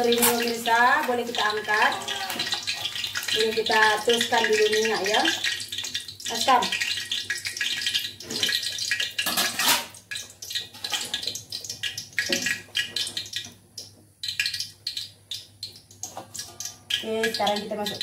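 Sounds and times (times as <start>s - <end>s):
oil sizzling in wok: 0.0s - 18.0s.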